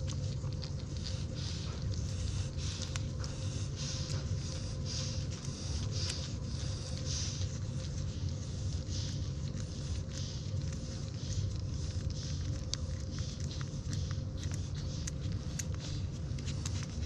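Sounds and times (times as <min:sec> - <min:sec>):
puppies suckling: 0:00.0 - 0:17.0
steady low hum: 0:00.0 - 0:17.0.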